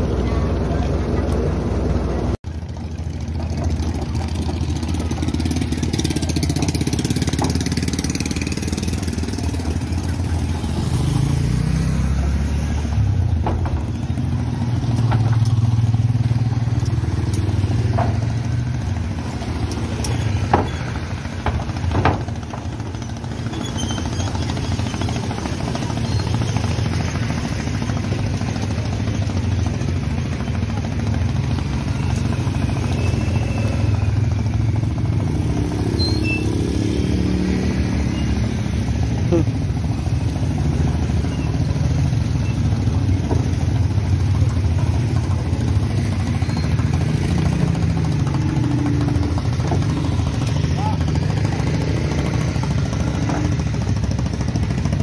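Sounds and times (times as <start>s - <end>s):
vehicle engines droning: 0.0s - 55.0s.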